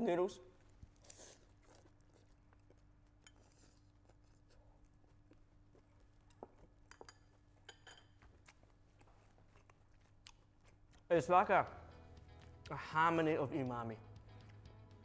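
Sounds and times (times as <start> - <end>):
faint room hum: 0.0 - 12.6.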